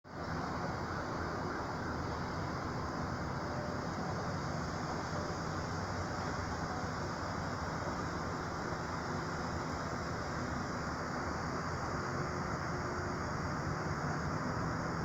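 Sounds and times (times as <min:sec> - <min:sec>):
outdoor background rumble and hiss: 0:00.1 - 0:15.0.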